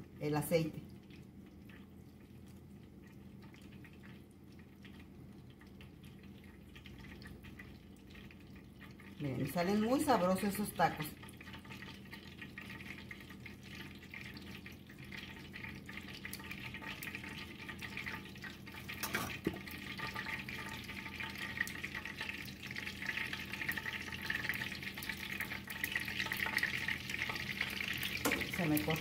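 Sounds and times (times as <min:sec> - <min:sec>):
hot oil sizzling in a frying pan: 0:03.4 - 0:29.0.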